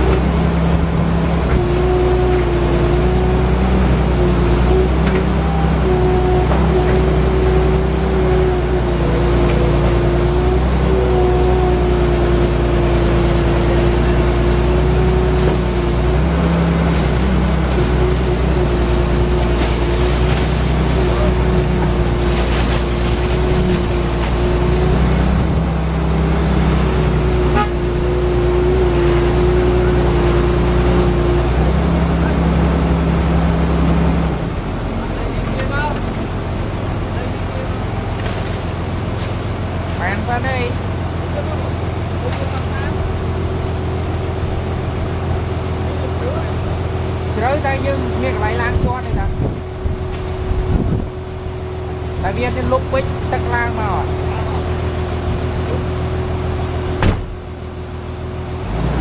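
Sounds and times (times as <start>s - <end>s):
steady whine: 0.0s - 58.7s
diesel engine under load: 0.0s - 59.0s.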